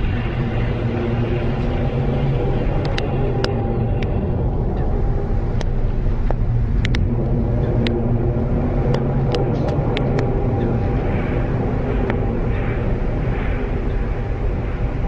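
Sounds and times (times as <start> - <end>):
loud low rumbling drone: 0.0 - 15.0.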